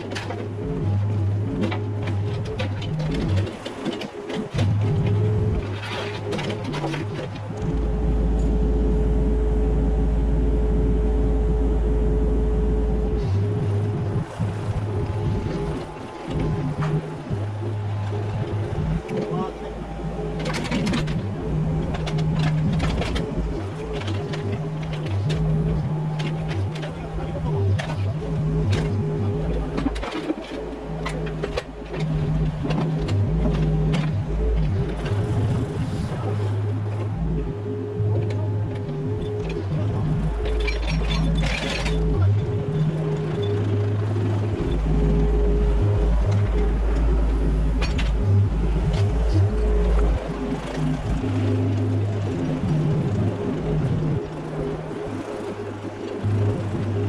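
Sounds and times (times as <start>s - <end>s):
music with heavy bass: 0.0s - 3.6s, 4.2s - 57.0s
mini excavator engine and hydraulics: 0.0s - 56.9s.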